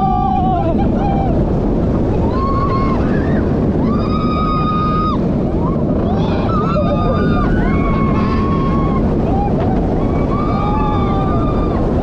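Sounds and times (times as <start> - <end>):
riders screaming: 0.0 - 1.5, 2.1 - 12.0
roller coaster rushing on track: 0.0 - 12.0.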